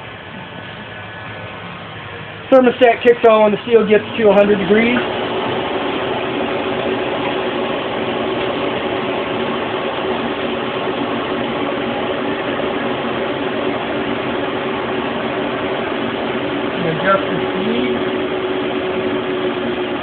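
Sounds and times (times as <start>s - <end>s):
blower fans humming: 0.0s - 20.0s.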